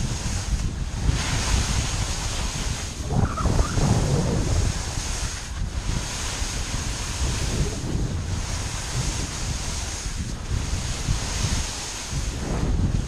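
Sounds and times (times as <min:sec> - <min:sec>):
skis sliding over snow: 0:00.0 - 0:13.0
wind buffeting microphone: 0:00.0 - 0:13.0.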